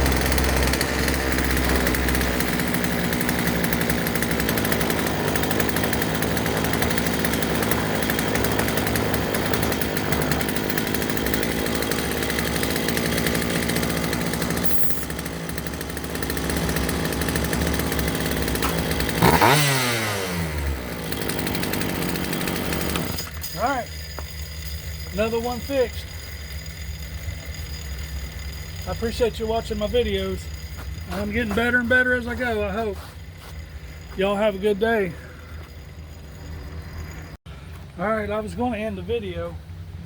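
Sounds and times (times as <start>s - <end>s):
chainsaw running: 0.0s - 38.4s.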